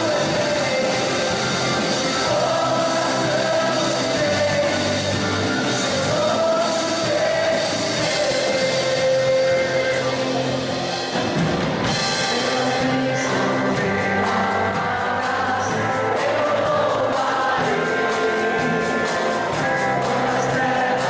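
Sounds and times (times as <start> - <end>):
person singing: 0.0 - 11.2, 11.8 - 21.0
rock band playing: 0.0 - 21.0.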